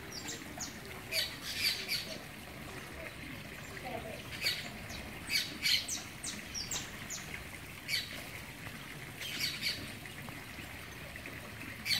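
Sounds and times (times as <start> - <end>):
birds calling: 0.0 - 10.0.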